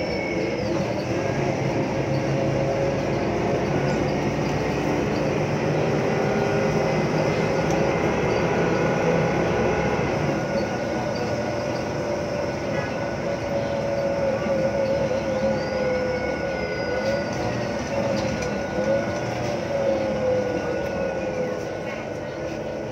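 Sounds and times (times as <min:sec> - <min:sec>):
bus engine running: 0:00.0 - 0:22.9
gearbox whine: 0:00.0 - 0:22.9.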